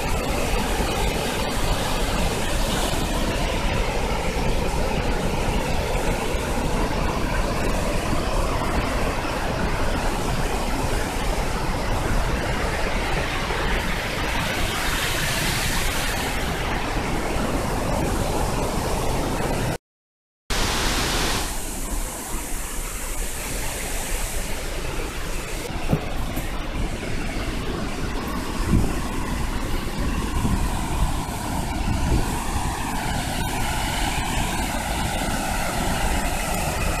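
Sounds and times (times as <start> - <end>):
waterfall rushing: 0.0 - 19.8, 20.5 - 37.0.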